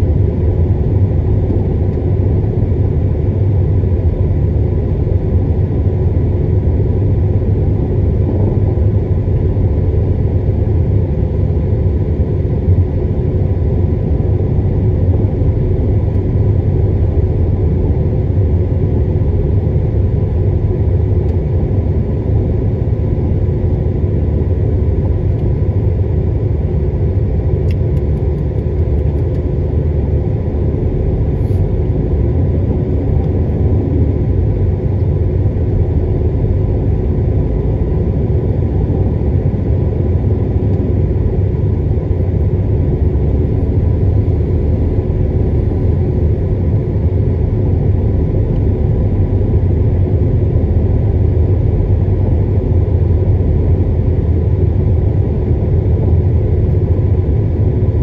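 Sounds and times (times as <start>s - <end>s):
car engine hum: 0.0s - 58.0s.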